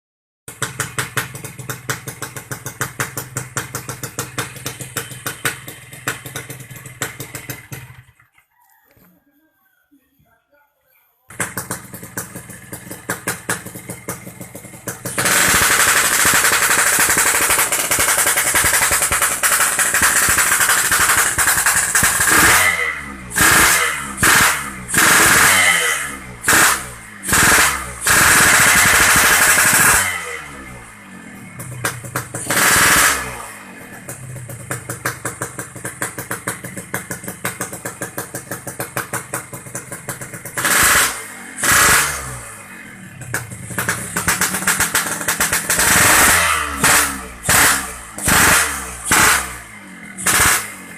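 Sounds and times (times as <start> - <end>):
two-stroke motorcycle engine revving: 0.5 - 8.2, 11.3 - 50.9.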